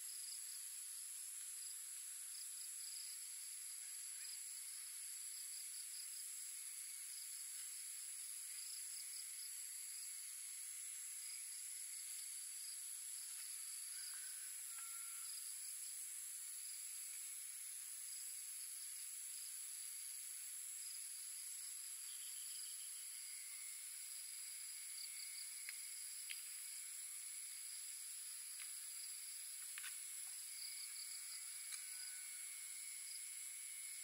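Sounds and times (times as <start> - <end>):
crickets and insects trilling: 0.0 - 34.0.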